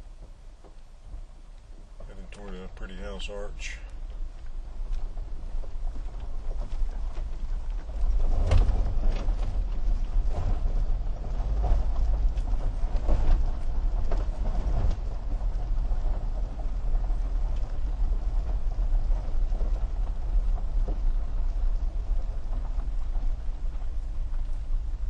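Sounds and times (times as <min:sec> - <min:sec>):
vehicle rumbling on gravel: 0:00.0 - 0:25.0.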